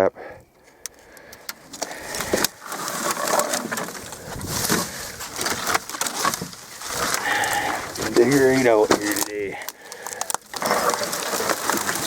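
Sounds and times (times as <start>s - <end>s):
debris crunching and rustling: 0.6s - 12.0s
sharp clicks and cracks: 0.7s - 12.0s.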